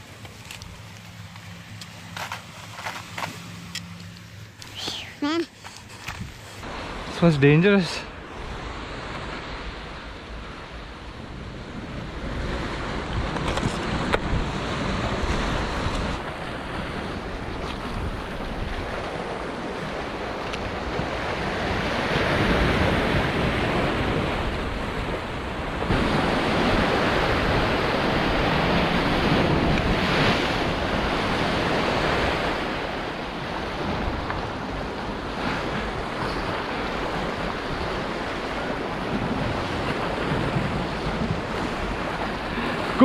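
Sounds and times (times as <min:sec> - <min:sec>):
sea waves washing over rocks: 0:06.6 - 0:43.0
wind buffeting microphone: 0:08.2 - 0:43.0.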